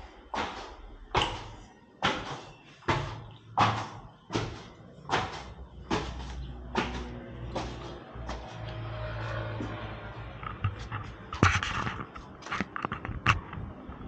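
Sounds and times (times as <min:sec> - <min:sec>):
footsteps on concrete stairs: 0:00.0 - 0:13.5.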